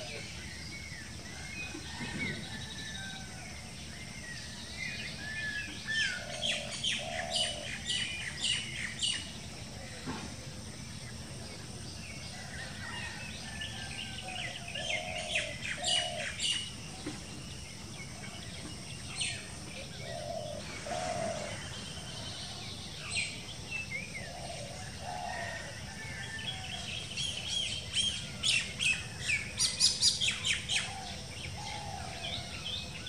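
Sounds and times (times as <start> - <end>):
bird singing: 0.0 - 33.0.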